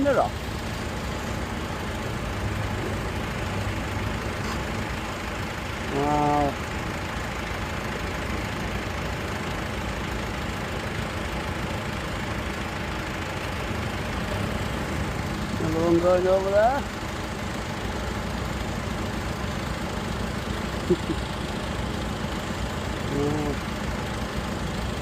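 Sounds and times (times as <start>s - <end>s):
tractor engines rumbling: 0.0s - 25.0s.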